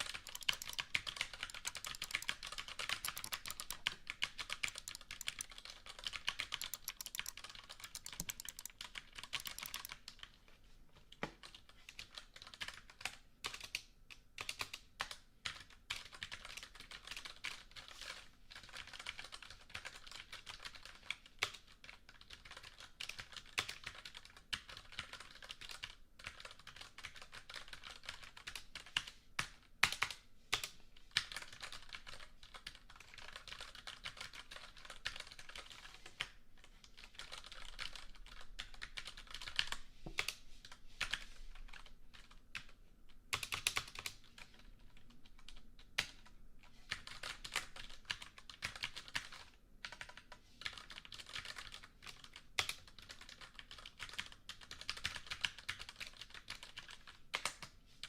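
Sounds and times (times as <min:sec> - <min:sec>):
typing on computer keyboard: 0:00.0 - 0:10.4, 0:11.4 - 0:57.8.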